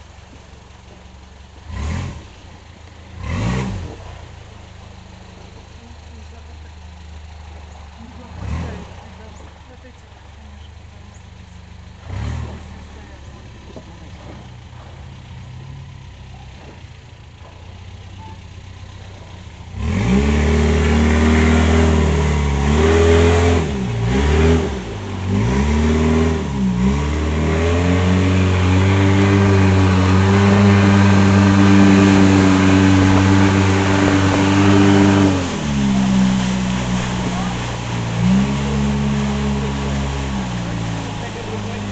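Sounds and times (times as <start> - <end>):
motorboat engine: 0.0 - 41.9.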